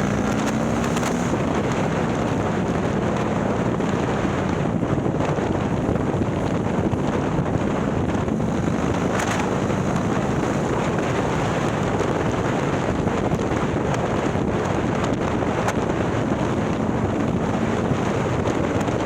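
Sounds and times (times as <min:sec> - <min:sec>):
motorcycle engine cruising: 0:00.0 - 0:19.0
wind noise on microphone: 0:00.0 - 0:19.0.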